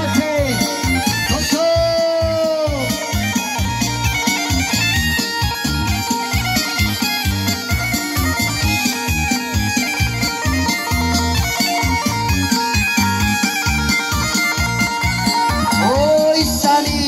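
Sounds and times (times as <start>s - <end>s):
folk dance music: 0.0s - 17.0s
quick bass beat: 0.0s - 17.0s
reedy melody line: 0.0s - 17.0s.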